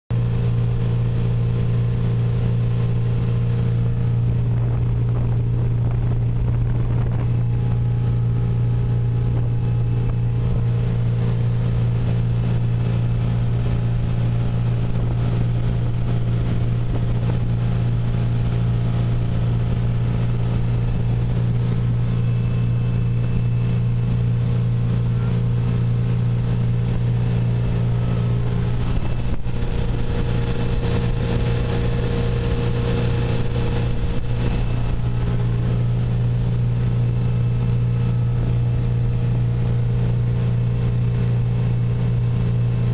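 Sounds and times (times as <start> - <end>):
motorboat engine running: 0.1 - 42.9
water rushing past hull: 0.1 - 42.9.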